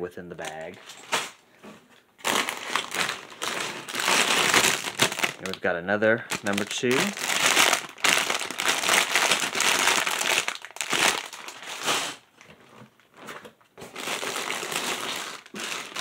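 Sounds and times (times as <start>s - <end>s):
plastic bags crinkling: 0.4s - 1.6s, 2.2s - 16.0s.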